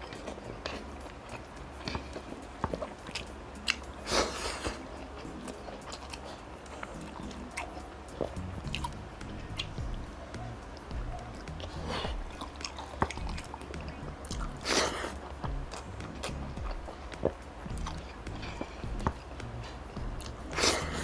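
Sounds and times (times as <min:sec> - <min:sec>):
chewing mouth clicks and smacks: 0:00.0 - 0:21.0.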